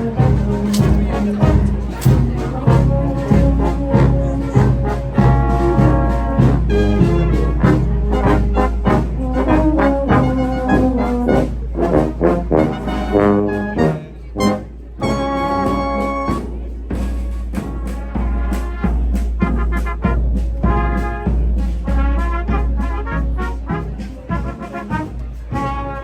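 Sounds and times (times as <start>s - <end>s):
brass band playing a march: 0.0s - 26.0s
drum beats: 0.0s - 26.0s.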